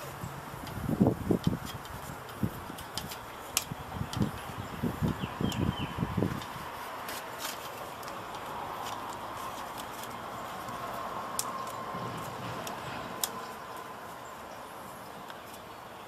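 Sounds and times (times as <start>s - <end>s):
light clicks of handled parts: 0.0s - 13.9s.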